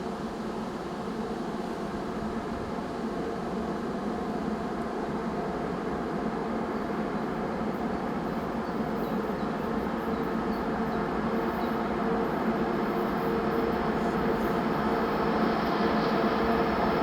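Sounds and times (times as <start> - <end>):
diesel locomotive engine drone: 0.3 - 17.0.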